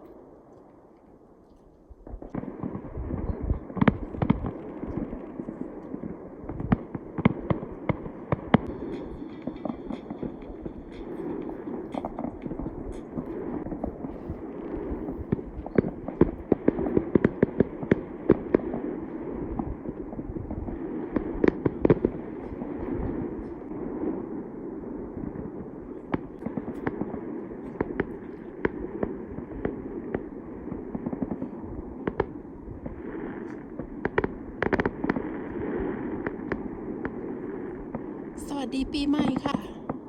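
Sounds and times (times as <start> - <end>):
fireworks rumble: 0.0 - 40.0
fireworks bangs and crackles: 2.0 - 40.0.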